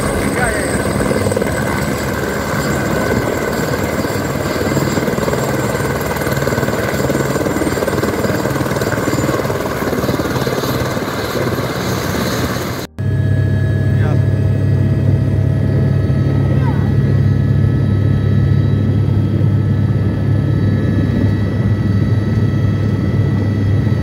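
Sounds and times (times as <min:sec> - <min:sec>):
helicopter rotor and engine: 0:00.0 - 0:24.0
high turbine whine: 0:00.0 - 0:24.0.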